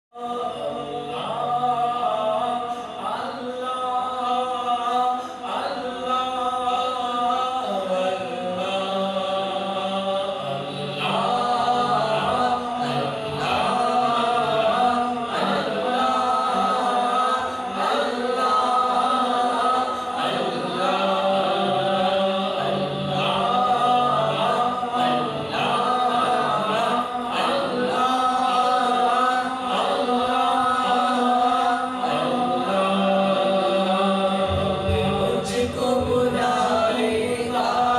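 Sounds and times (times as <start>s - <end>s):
low vocal drone: 0.2s - 37.9s
wordless vocal chorus: 0.2s - 37.9s.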